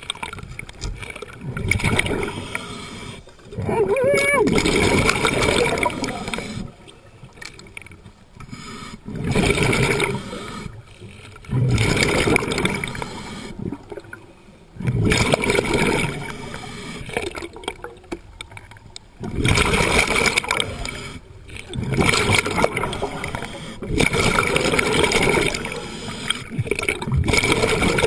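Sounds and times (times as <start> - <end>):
underwater regulator bubbling exhales: 1.0 - 7.0, 8.4 - 14.2, 14.8 - 17.9, 19.2 - 28.0.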